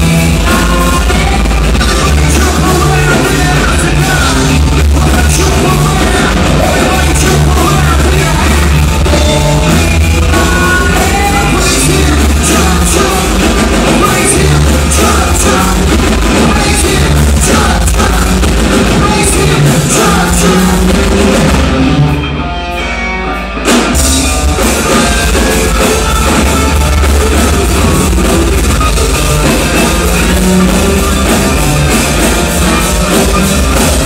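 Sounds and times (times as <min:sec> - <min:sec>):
bass guitar: 0:00.0 - 0:34.0
drum kit: 0:00.0 - 0:34.0
electric guitars: 0:00.0 - 0:34.0.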